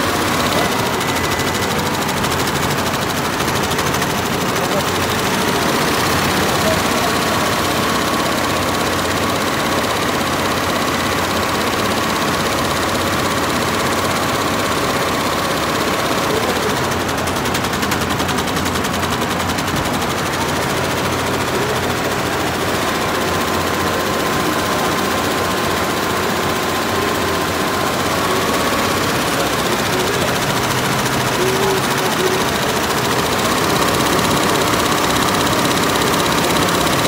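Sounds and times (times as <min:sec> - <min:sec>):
embroidery machine clattering: 0:00.0 - 0:37.0.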